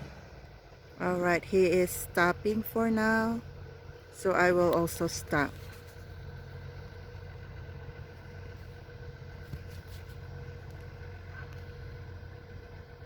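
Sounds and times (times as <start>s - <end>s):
excavator diesel engine idling: 0.0s - 13.0s.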